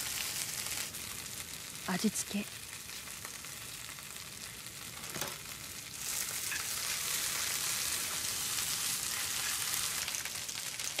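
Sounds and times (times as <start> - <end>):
greens sizzling in frying pan: 0.0 - 11.0.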